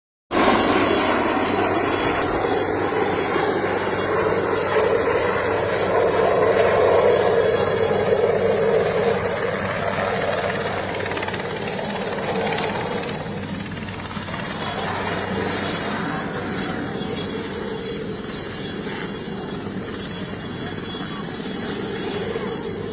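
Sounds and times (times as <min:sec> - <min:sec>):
helicopter rotor and engine: 0:00.3 - 0:22.9
high turbine whine: 0:00.3 - 0:22.9.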